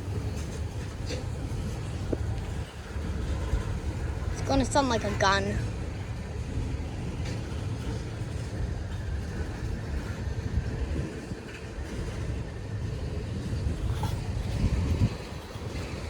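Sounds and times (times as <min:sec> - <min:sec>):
freight train cars rumbling: 0:00.0 - 0:16.0.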